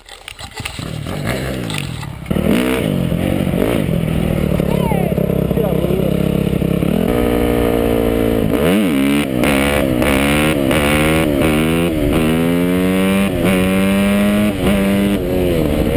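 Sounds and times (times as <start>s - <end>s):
dirt bike engine revving: 0.6s - 15.9s.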